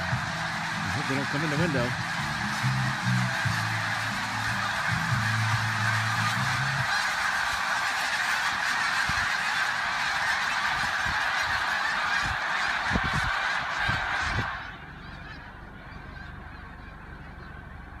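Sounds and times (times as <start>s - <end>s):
flock of geese honking: 0.0s - 18.0s.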